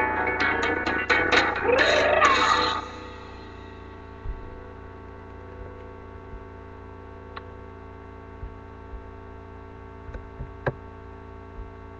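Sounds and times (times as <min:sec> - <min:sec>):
electrical hum: 0:00.0 - 0:11.9.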